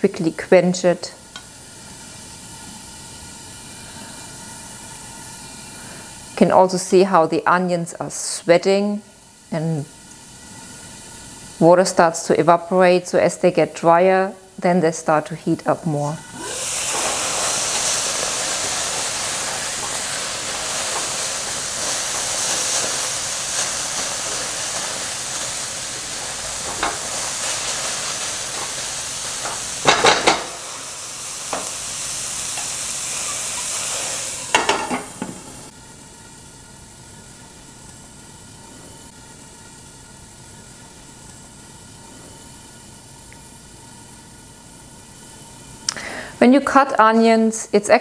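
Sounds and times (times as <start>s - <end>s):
onions sizzling in a pan: 0.0s - 48.0s.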